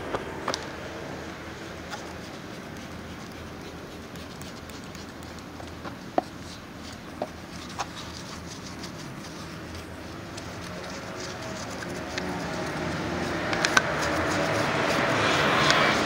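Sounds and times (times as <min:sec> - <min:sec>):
steady background hum: 0:00.0 - 0:16.0
brush scrubbing tyre: 0:01.4 - 0:16.0.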